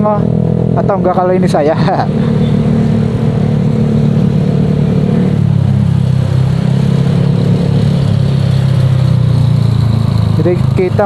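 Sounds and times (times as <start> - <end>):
scooter engine with deep exhaust: 0.0 - 11.0.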